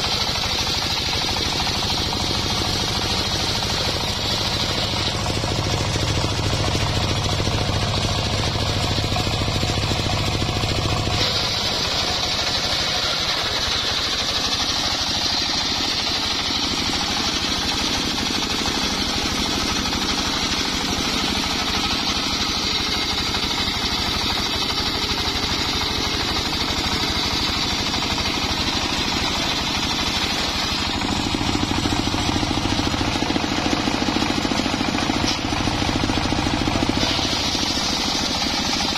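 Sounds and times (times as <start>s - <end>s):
circular saw blade cutting log: 0.0s - 38.9s
engine running under load: 0.0s - 38.9s.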